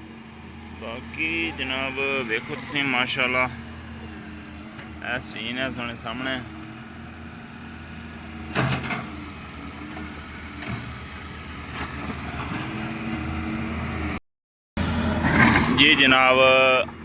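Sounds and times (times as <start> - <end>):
heavy vehicle engine running: 0.0 - 14.2, 14.8 - 17.0.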